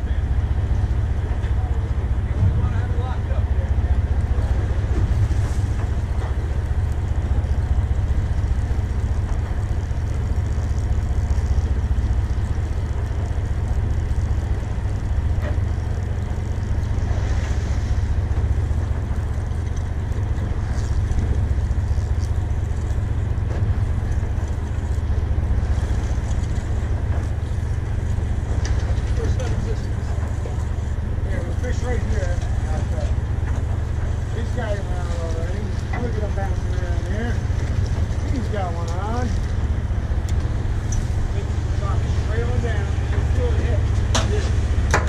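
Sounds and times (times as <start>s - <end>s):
boat engine rumbling: 0.0s - 45.0s.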